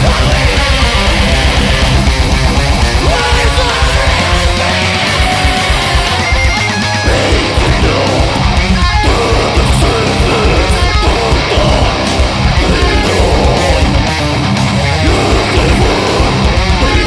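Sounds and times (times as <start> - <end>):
bass guitar: 0.0 - 17.0
distorted electric guitars: 0.0 - 17.0
driving drums: 0.0 - 17.0.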